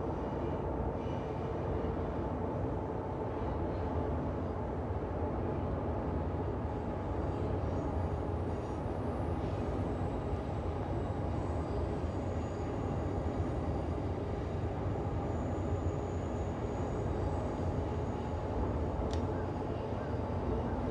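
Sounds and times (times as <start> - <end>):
low city rumble: 0.0 - 20.9.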